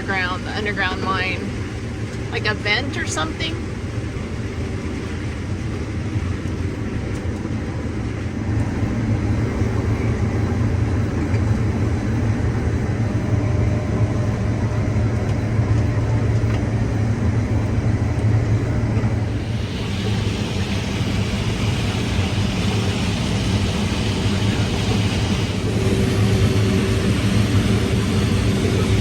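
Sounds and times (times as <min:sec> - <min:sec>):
combine harvester drone: 0:00.0 - 0:29.0.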